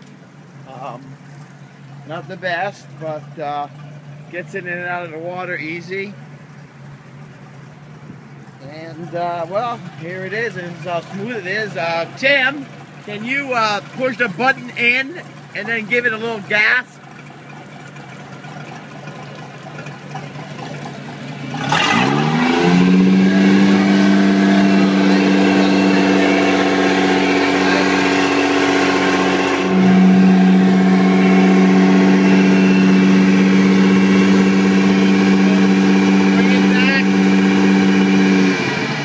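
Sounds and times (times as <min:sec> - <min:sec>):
boat engine starting and idling: 0:00.0 - 0:39.0.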